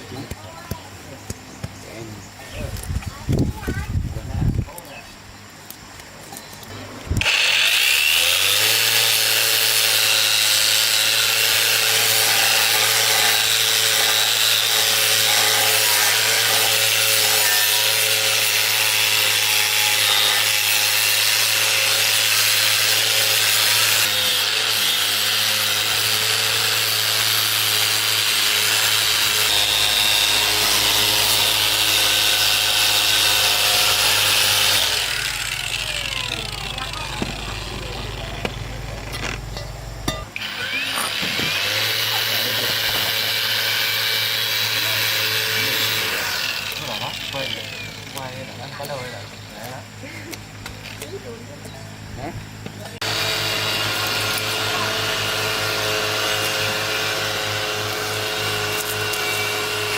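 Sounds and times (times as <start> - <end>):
electric power tool running: 7.1 - 50.1, 52.9 - 59.9.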